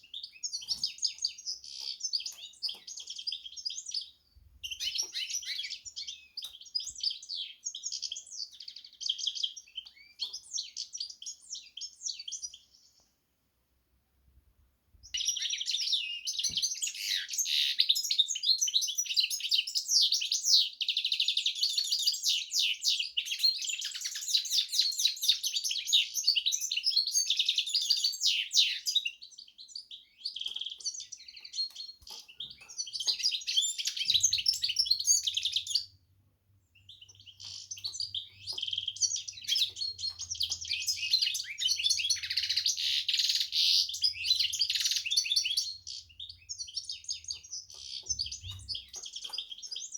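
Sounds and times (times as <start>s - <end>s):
bird singing high twittering song: 0.0s - 13.1s, 15.0s - 49.9s.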